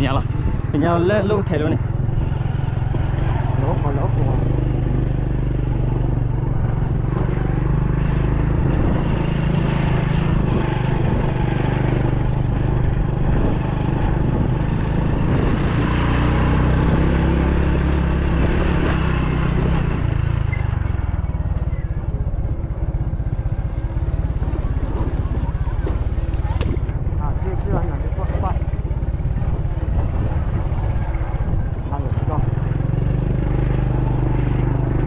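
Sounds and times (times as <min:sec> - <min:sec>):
road noise: 0:00.0 - 0:35.0
vehicle engine running: 0:00.0 - 0:35.0.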